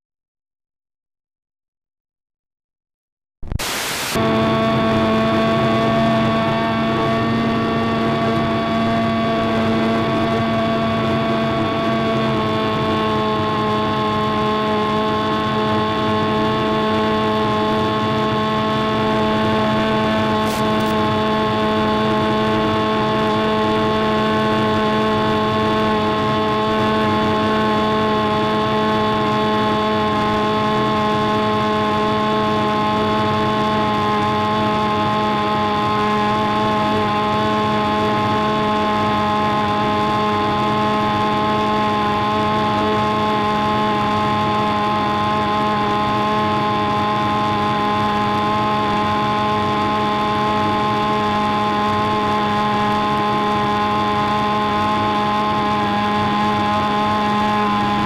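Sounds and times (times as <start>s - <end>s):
model airplane engine running: 4.1s - 58.0s.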